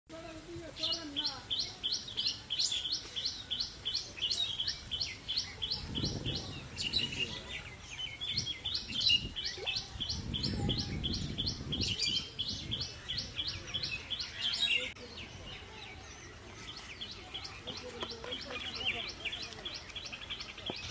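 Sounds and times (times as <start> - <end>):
bird chirping: 0.7 - 20.9.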